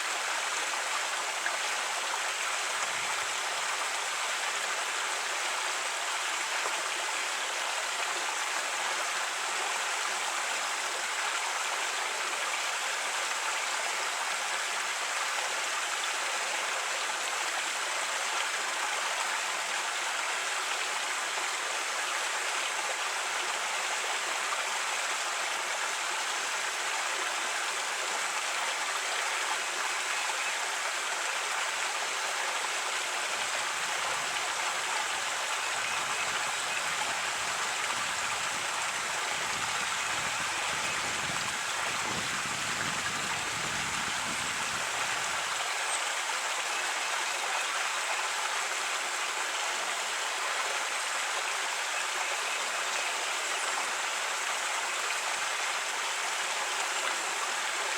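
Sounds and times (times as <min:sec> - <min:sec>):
creek water over rocks: 0:00.0 - 0:57.9.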